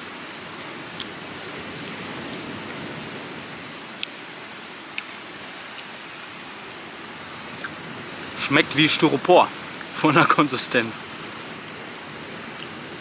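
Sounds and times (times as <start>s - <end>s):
surf and beach hiss: 0.0s - 13.0s.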